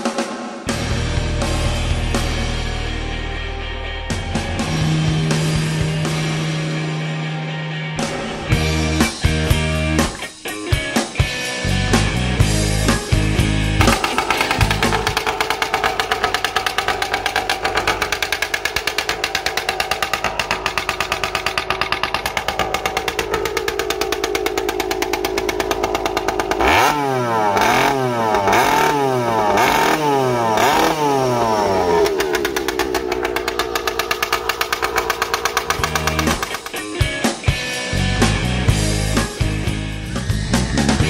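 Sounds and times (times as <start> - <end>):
two-stroke engine idling and revving: 4.1 - 7.3, 7.9 - 41.0.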